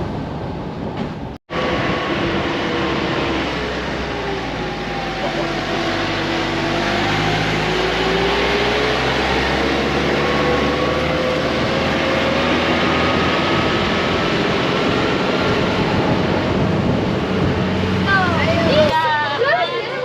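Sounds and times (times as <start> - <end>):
vehicle engine and road noise: 0.0 - 20.0
rising engine whine: 1.5 - 20.0.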